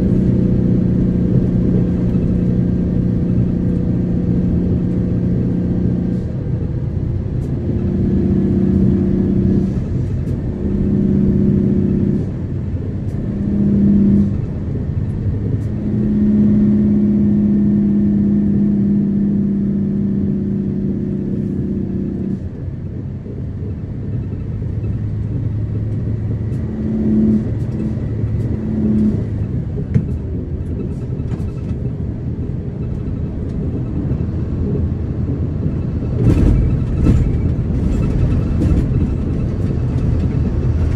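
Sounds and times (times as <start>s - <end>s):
engine and road rumble in car: 0.0s - 40.9s
low engine drone: 0.0s - 40.9s.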